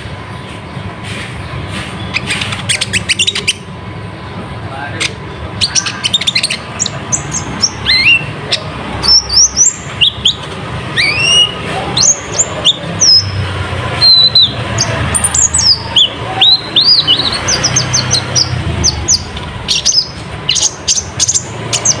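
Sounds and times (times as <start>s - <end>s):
sunbird singing chirps and whistles: 2.0s - 3.7s, 5.0s - 22.0s.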